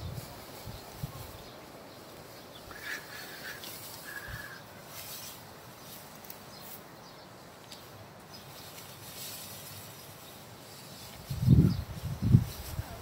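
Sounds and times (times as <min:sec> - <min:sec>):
dry stalks rustling: 0:00.0 - 0:13.0.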